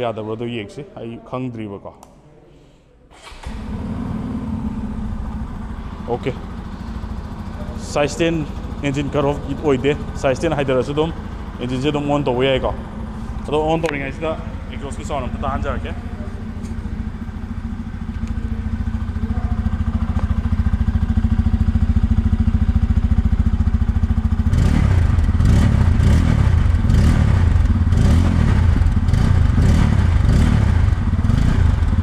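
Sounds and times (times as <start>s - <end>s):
motorcycle engine idling and revving: 3.2s - 32.0s.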